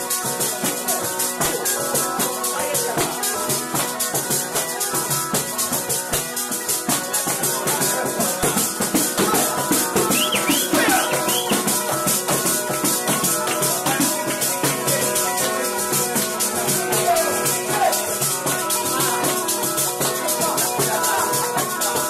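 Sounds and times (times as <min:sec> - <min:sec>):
bagpipe playing: 0:00.0 - 0:22.0
frame drum jingling beat: 0:00.0 - 0:22.0.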